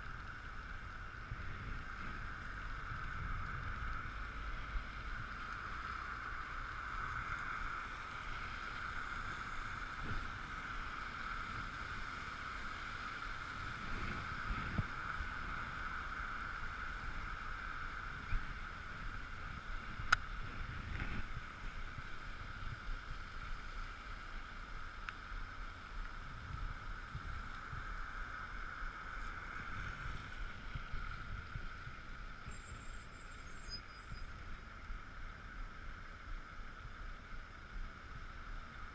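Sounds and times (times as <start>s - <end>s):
low wind rumble: 0.0s - 38.9s.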